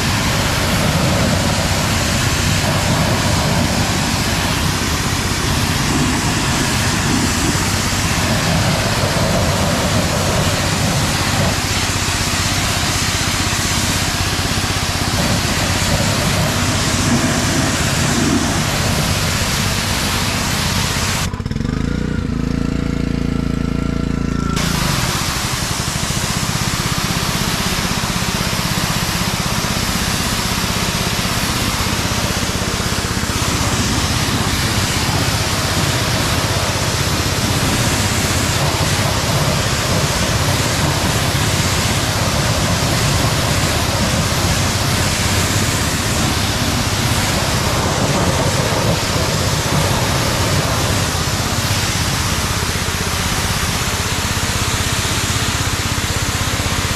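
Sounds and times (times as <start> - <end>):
pressure washer water jet hissing: 0.0 - 21.8, 24.6 - 56.9
pressure washer motor humming: 0.0 - 56.9.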